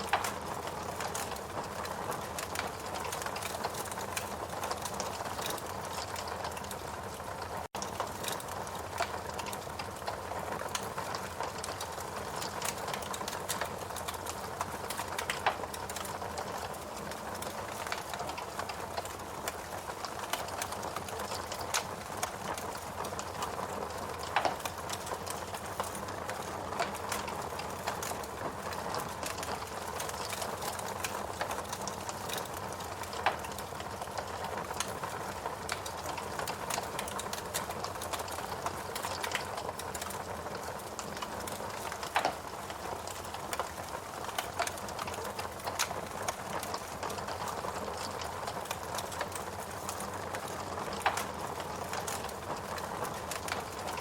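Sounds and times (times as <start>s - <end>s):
log fire crackling and popping: 0.0s - 54.0s.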